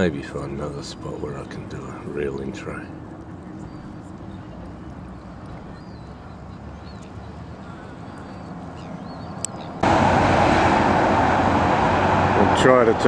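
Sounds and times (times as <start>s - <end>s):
distant traffic hum: 0.0s - 13.0s
nearby traffic roar: 0.0s - 13.0s.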